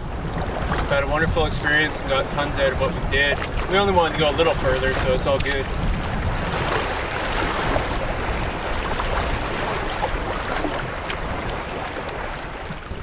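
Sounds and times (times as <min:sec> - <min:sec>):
waves lapping against canoe: 0:00.0 - 0:13.0
wind buffeting microphone: 0:00.0 - 0:13.0.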